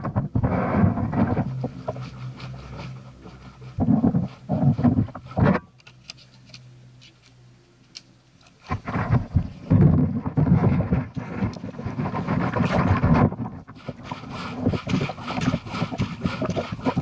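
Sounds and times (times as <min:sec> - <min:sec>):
rumbling water splashing on camera: 0:00.0 - 0:05.7, 0:08.4 - 0:17.0
paddle stroke in water: 0:00.0 - 0:06.5, 0:08.4 - 0:17.0.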